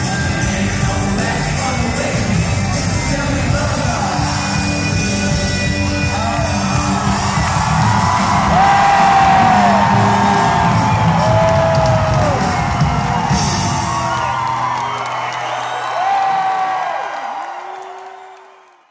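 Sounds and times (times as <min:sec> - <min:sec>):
live rock band playing: 0:00.0 - 0:15.4.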